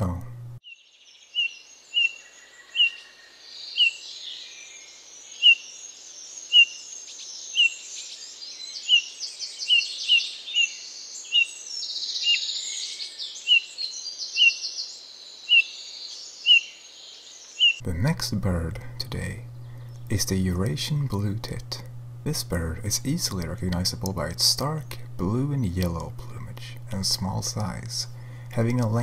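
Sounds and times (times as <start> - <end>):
birds chattering: 0.0 - 29.0.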